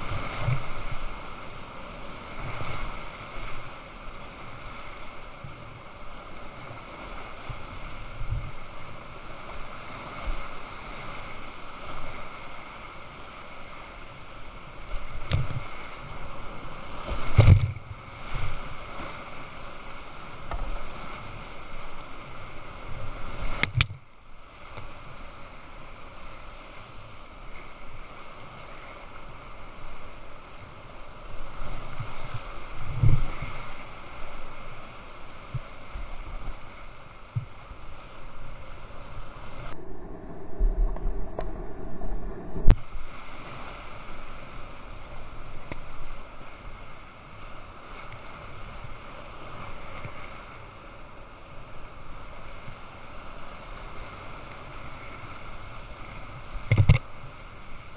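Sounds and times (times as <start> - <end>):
waves splashing against boat: 0.0 - 57.9.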